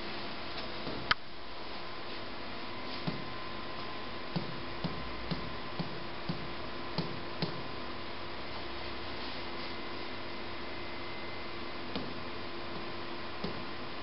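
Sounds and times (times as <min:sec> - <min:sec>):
small room hum: 0:00.0 - 0:14.0.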